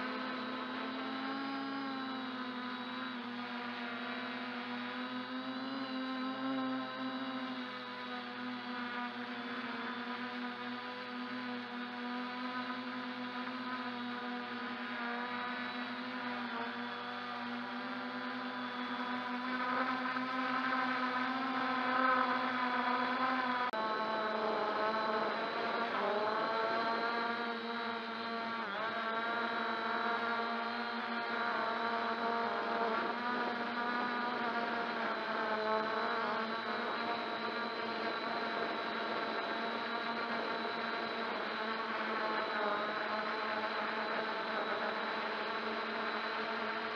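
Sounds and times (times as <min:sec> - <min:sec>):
drone propellers whirring: 0:00.0 - 0:46.9.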